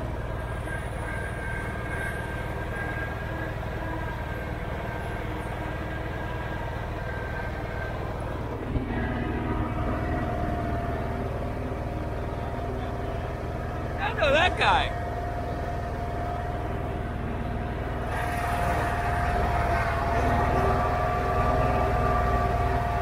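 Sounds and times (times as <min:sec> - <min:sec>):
garden tractor engine running: 0:00.0 - 0:23.0.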